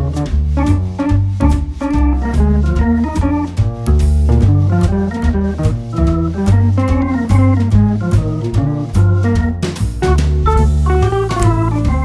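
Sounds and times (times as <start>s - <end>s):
instrumental music with drum beat: 0.0s - 12.0s.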